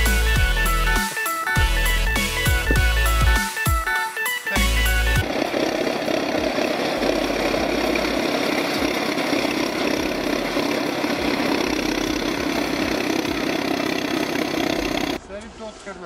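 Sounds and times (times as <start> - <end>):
bulldozer engine running: 0.0 - 3.9, 4.5 - 15.2.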